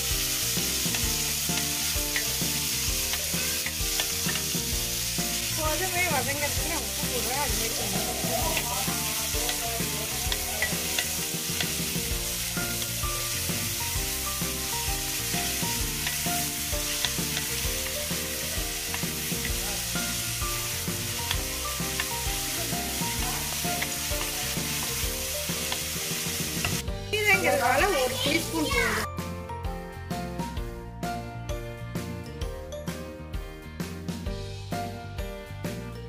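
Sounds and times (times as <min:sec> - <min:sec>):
onions sizzling in hot oil: 0:00.0 - 0:29.1.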